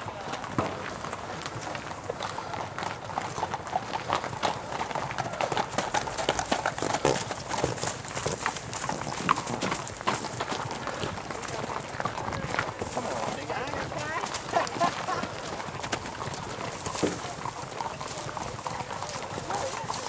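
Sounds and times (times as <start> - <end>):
horse hoofbeats: 0.0 - 20.0.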